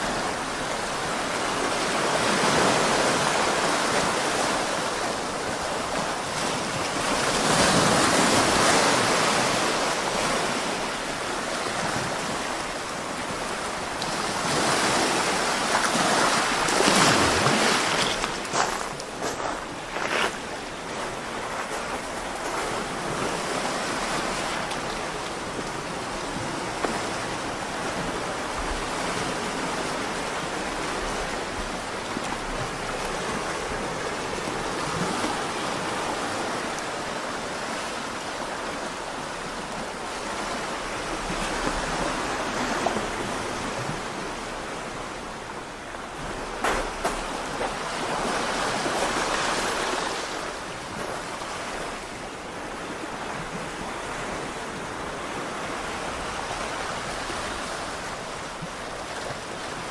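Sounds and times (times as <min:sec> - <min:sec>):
waves washing on beach: 0:00.0 - 0:59.9.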